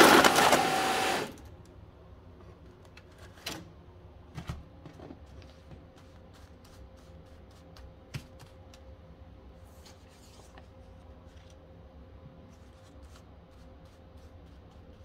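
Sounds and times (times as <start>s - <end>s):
faint steady hum: 1.3s - 15.0s.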